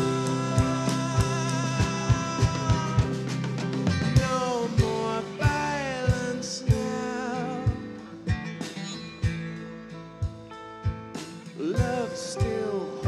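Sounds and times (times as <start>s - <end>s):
bending guitar lead line: 0.0s - 13.0s
country-rock band playing: 0.0s - 13.0s
steady drum beat: 0.0s - 13.0s.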